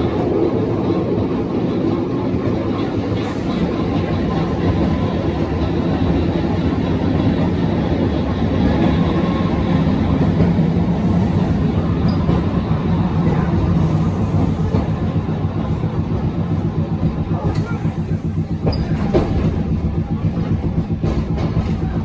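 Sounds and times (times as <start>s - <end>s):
streetcar rumbling on rails: 0.0s - 22.0s.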